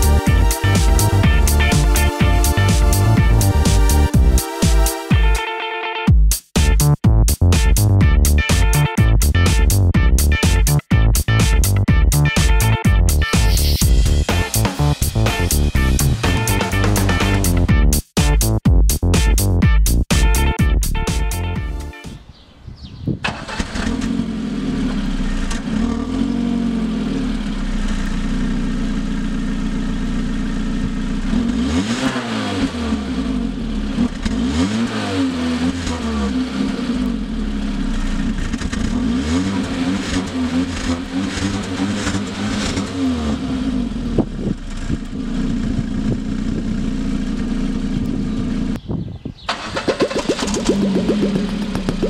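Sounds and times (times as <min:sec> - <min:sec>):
car engine idling and revving: 0:00.0 - 0:05.0, 0:06.7 - 0:18.2, 0:23.3 - 0:48.8, 0:49.5 - 0:52.0.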